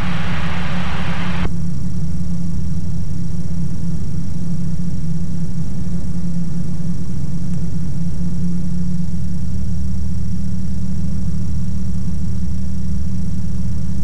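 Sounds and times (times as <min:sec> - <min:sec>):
microlight engine drone: 0:00.0 - 0:14.0.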